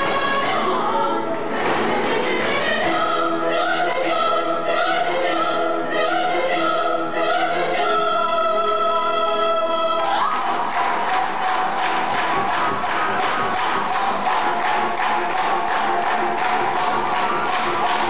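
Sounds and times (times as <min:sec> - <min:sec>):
choir singing: 0:00.0 - 0:18.0
musical accompaniment: 0:00.0 - 0:18.0.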